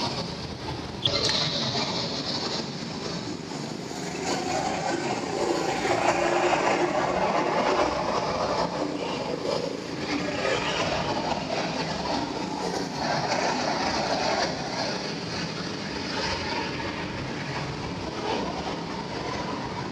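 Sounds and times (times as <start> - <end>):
go-kart engines droning: 0.0 - 19.9.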